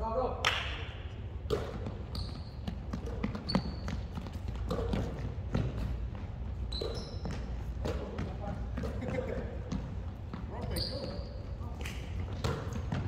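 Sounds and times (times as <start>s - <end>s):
sneakers squeaking: 1.3s - 13.0s
basketball bouncing on wood floor: 1.5s - 11.2s, 12.2s - 13.0s.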